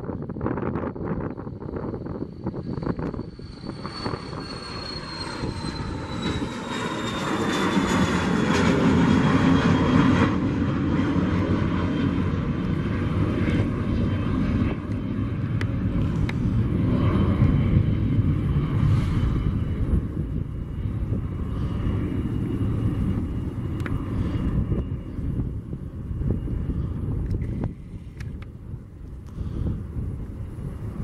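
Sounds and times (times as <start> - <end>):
high fan whine: 0.0 - 31.0
jet engine roar: 0.0 - 31.0.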